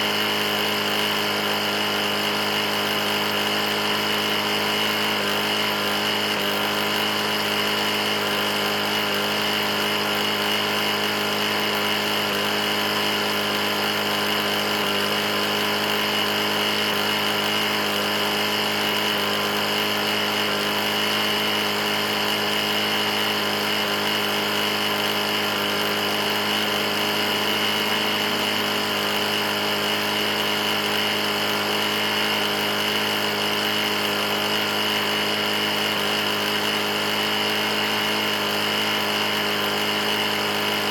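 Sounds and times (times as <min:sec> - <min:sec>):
lawn mower engine knocking: 0:00.0 - 0:40.9.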